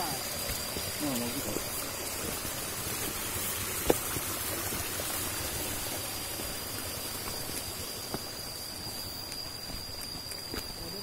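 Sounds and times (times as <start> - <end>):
flowing water: 0.0 - 11.0.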